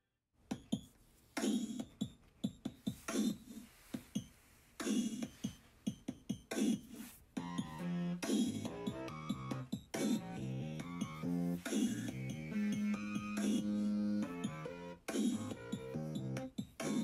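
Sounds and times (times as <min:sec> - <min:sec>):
electronic drum beat: 0:00.4 - 0:17.0.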